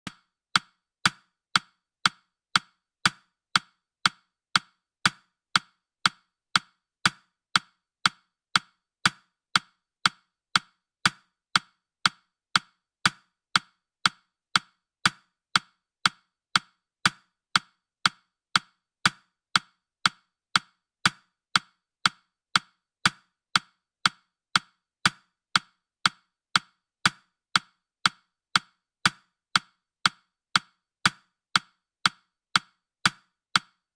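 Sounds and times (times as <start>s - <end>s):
clock-like timer ticks: 0.0s - 33.9s.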